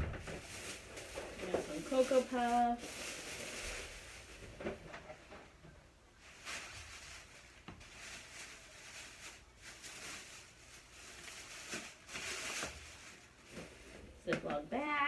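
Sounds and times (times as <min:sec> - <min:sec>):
packaging rustling: 0:00.1 - 0:04.8, 0:06.2 - 0:13.9.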